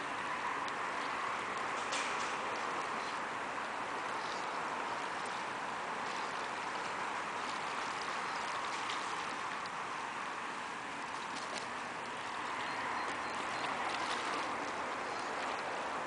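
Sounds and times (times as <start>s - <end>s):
geese splashing in shallow water: 0.0s - 16.0s
steady rushing noise: 0.0s - 16.0s.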